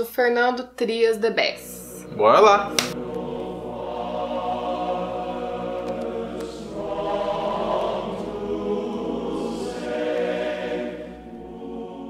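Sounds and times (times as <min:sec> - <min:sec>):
choir singing sustained notes: 0:01.2 - 0:12.0.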